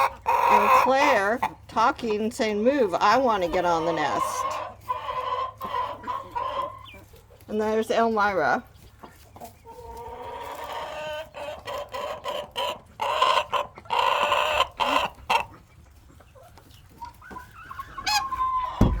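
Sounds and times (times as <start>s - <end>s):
hens clucking and calling: 0.0s - 19.0s.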